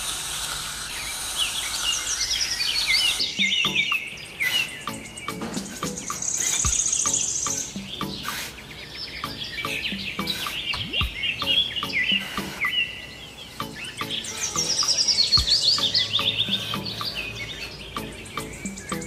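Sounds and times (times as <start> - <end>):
birds chirping and trilling: 0.7 - 19.0.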